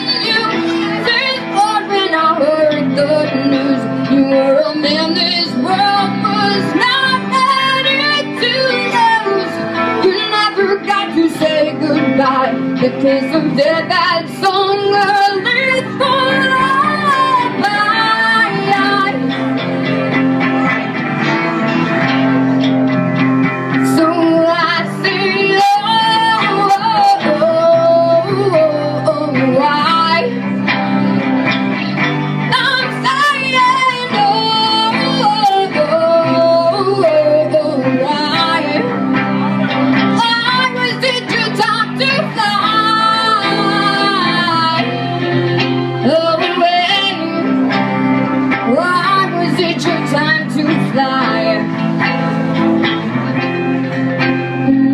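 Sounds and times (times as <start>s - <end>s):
guitar: 0.0s - 54.9s
person singing: 0.0s - 54.9s.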